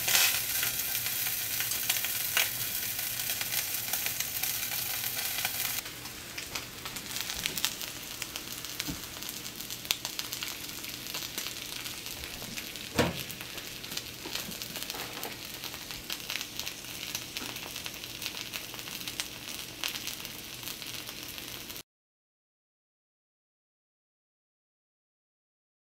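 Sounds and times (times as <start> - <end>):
bacon sizzling in skillet: 0.0 - 21.8.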